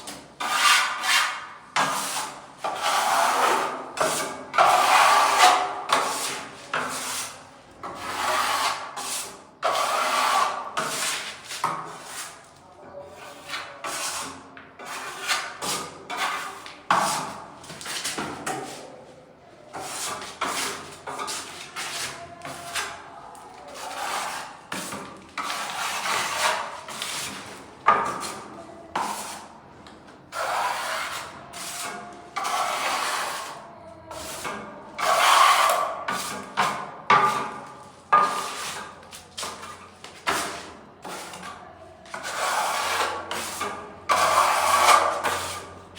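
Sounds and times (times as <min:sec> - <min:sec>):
hand tool scraping a surface: 0:00.4 - 0:12.5, 0:13.1 - 0:18.8, 0:19.7 - 0:23.0, 0:23.7 - 0:29.5, 0:30.3 - 0:45.7.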